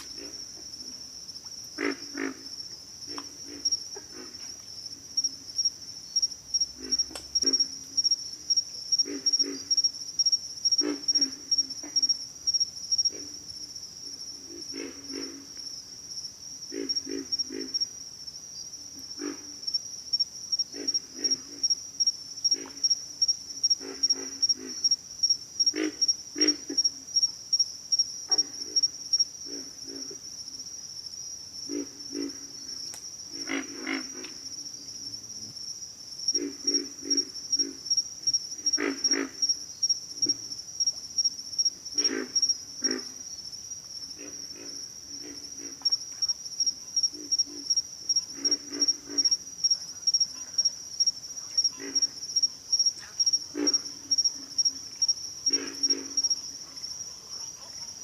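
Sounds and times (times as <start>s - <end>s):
frogs grunting: 0.0s - 5.4s, 6.1s - 18.0s, 19.0s - 19.8s, 20.6s - 27.2s, 28.2s - 30.5s, 31.6s - 35.6s, 36.3s - 58.0s
insect chorus: 0.0s - 58.0s.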